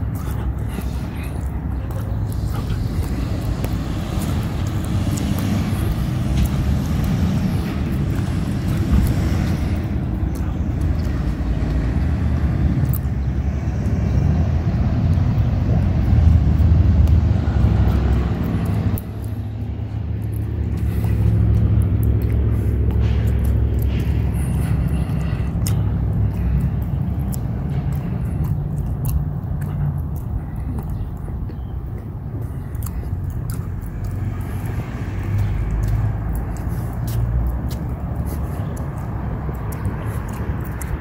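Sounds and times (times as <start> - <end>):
low rumble of road traffic: 0.0 - 41.0.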